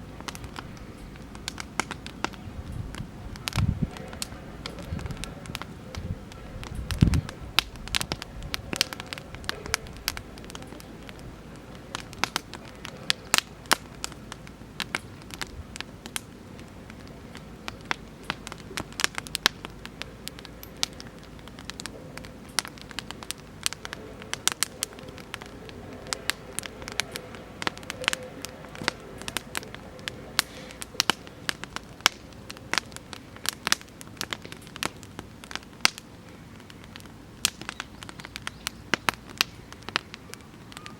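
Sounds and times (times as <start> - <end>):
campfire crackling and popping: 0.0 - 40.9
fire hissing: 0.0 - 40.9.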